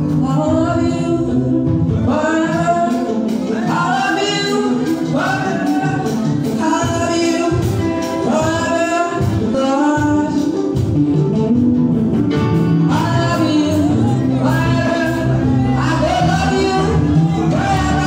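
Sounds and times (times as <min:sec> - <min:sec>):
keyboard accompaniment: 0:00.0 - 0:18.0
man singing lead: 0:00.0 - 0:18.0
backing vocal group singing: 0:00.1 - 0:09.8, 0:12.9 - 0:18.0.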